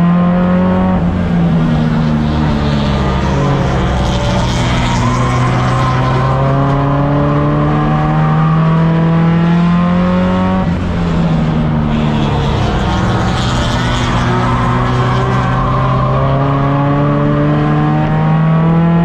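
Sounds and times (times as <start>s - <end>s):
race car engine at full throttle: 0.0s - 19.0s.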